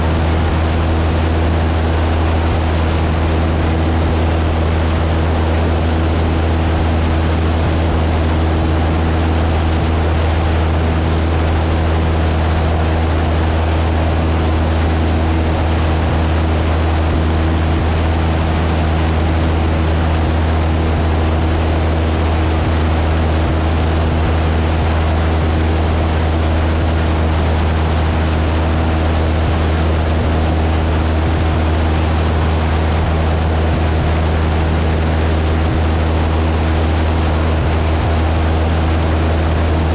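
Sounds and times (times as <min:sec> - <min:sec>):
propeller engine droning: 0:00.0 - 0:39.9.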